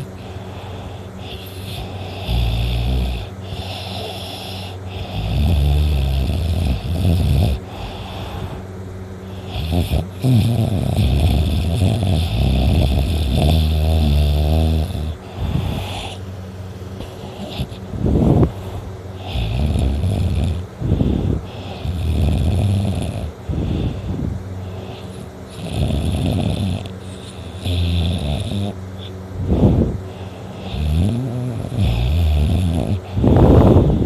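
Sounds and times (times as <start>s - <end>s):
boy snoring loudly: 0.0s - 8.6s, 9.3s - 16.2s, 17.0s - 24.1s, 24.7s - 34.0s.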